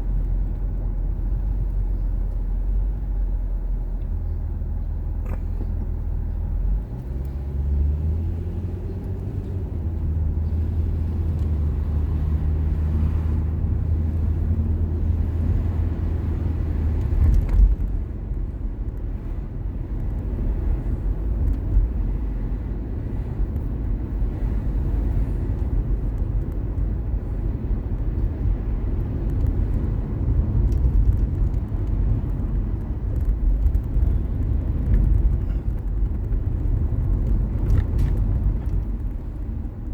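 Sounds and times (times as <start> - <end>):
car engine hum: 0.0 - 39.9
road and tyre rumble: 0.0 - 39.9.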